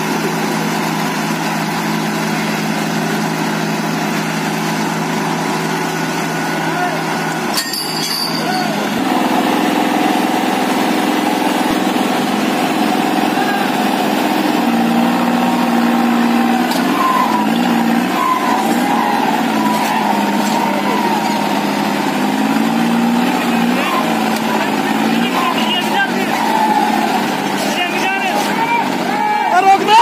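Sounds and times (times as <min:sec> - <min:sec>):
tractor engines under load: 0:00.0 - 0:30.0.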